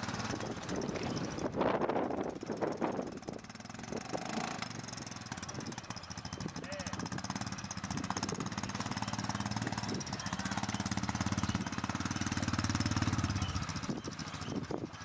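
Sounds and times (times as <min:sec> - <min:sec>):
engine running with rapid pulsing: 0:00.0 - 0:15.0.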